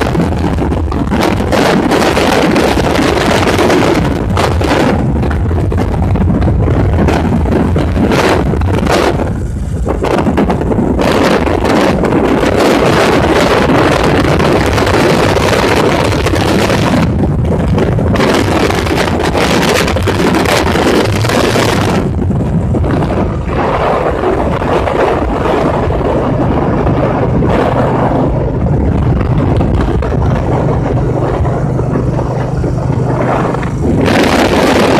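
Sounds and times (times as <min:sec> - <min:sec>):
motorcycle engine drone: 0:00.0 - 0:34.9
wind rushing over microphone: 0:00.0 - 0:34.9.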